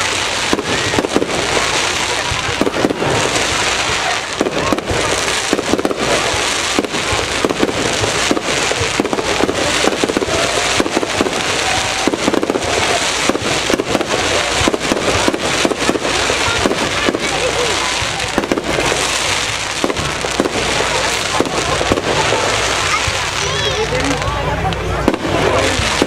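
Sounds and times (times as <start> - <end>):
fireworks crackling and banging: 0.0 - 26.0.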